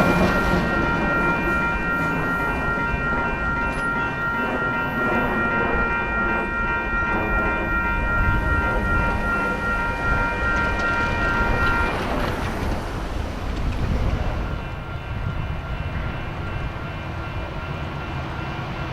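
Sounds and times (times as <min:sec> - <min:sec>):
passing train rumble: 0:00.0 - 0:18.9.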